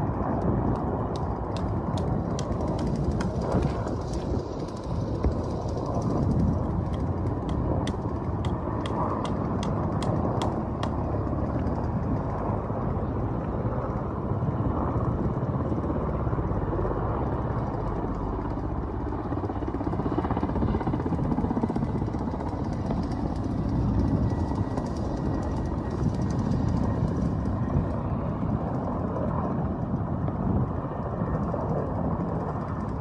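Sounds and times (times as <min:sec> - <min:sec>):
helicopters flying past: 0:00.0 - 0:33.0.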